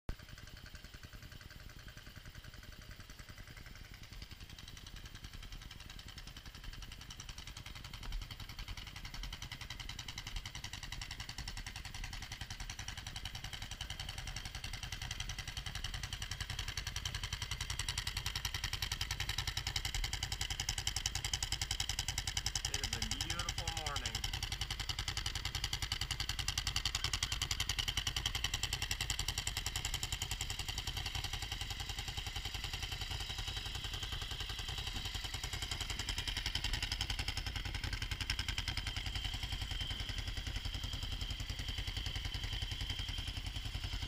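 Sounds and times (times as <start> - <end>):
motorcycle engine idling: 0.1 - 44.0.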